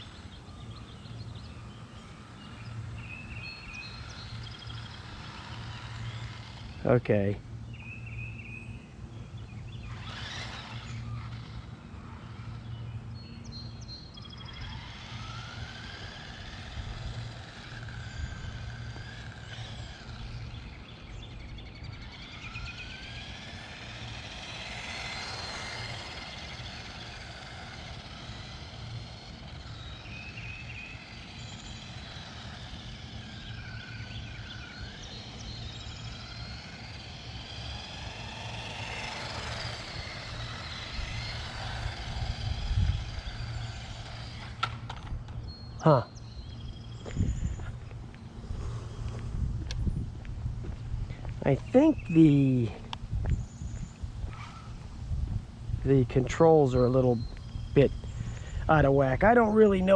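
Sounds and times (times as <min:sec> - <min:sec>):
small electric motor whining: 0:00.0 - 0:59.9
steady low hum: 0:00.0 - 0:59.9.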